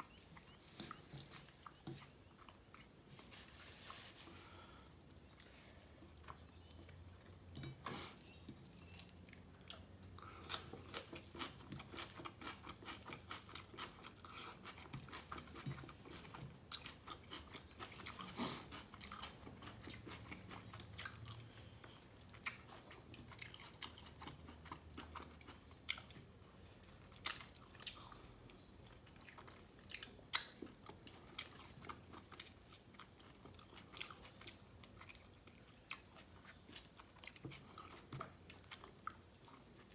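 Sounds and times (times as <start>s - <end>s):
chewing and biting food: 5.0s - 39.9s.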